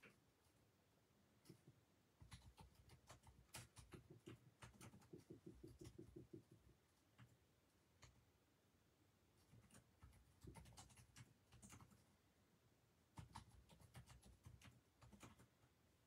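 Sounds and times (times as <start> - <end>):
faint small clicks and scratches: 0.0 - 0.6, 1.4 - 8.3, 9.3 - 12.1, 13.1 - 15.8.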